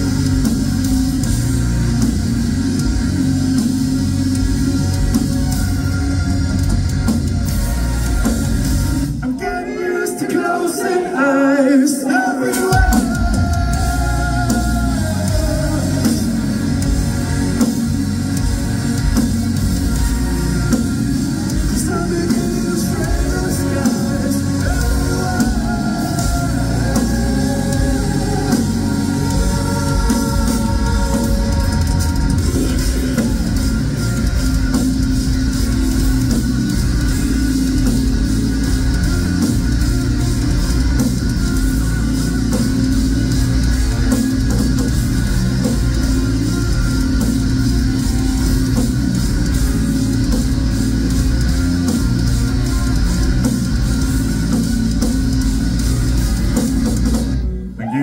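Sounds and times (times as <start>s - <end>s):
electric guitars: 0.0s - 9.8s, 10.4s - 58.0s
drums: 0.0s - 58.0s.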